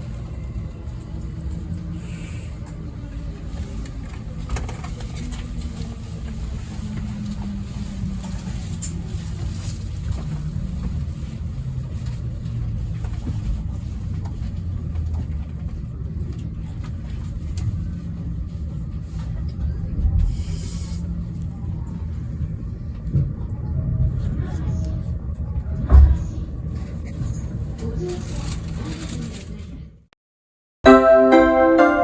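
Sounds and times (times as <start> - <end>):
train rumbling on rails: 0.0 - 29.8.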